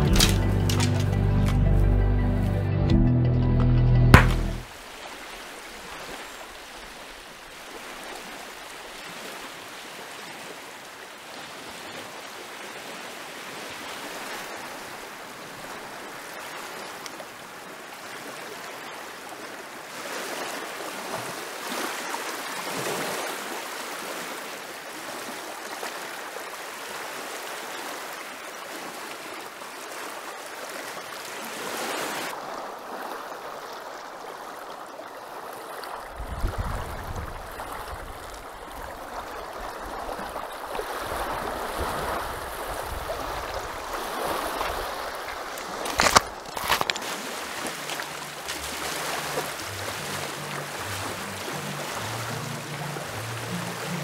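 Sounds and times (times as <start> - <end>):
waves lapping on stony shore: 4.2 - 54.0.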